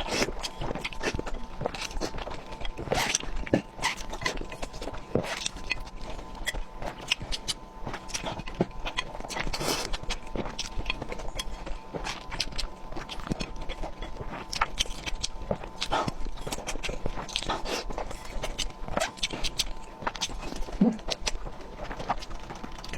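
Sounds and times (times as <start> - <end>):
chewing and slurping noodles: 0.0 - 22.9.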